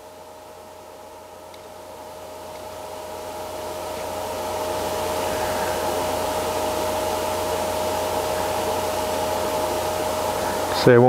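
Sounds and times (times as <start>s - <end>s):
constant hum: 0.0s - 11.0s
fan whirring: 0.0s - 11.0s.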